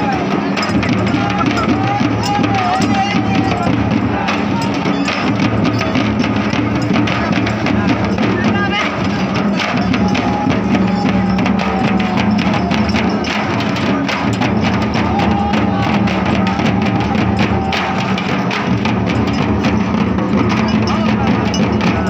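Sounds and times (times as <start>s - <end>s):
frame drums beaten with sticks: 0.0s - 22.0s.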